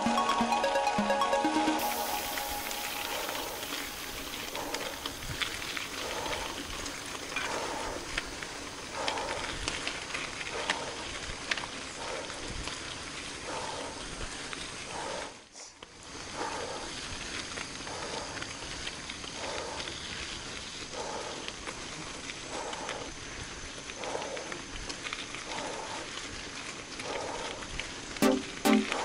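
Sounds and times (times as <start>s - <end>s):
tyre and trail rustle: 1.8s - 29.0s
person breathing hard: 2.6s - 27.8s.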